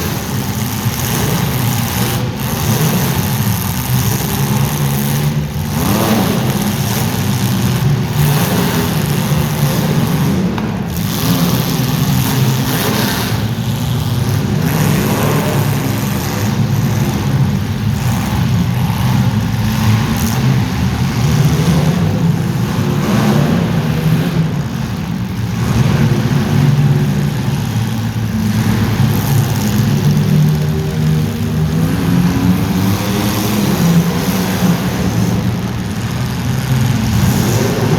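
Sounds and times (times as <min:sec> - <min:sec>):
racing engines revving: 0:00.0 - 0:37.9.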